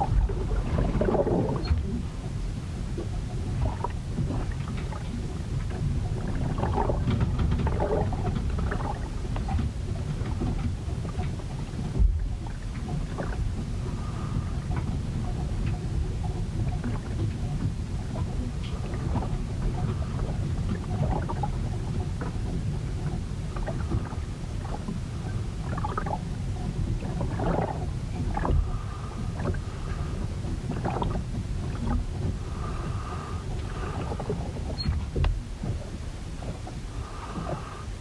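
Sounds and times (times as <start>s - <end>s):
ship knocking and creaking: 0.0s - 38.0s
wind and water rumbling against hull: 0.0s - 38.0s.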